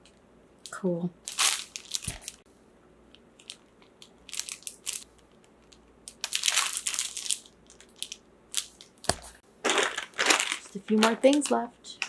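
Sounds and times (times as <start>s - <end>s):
plastic shrink-wrap crinkling: 0.6s - 2.4s, 3.4s - 11.6s
sharp plastic crackles: 0.6s - 2.4s, 3.1s - 12.0s.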